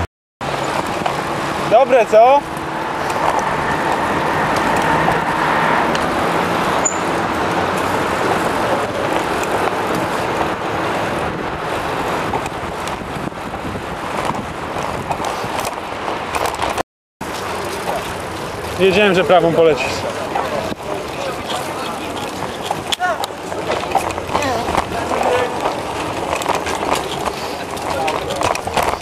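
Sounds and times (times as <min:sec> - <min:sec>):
city traffic noise: 0:00.0 - 0:29.0.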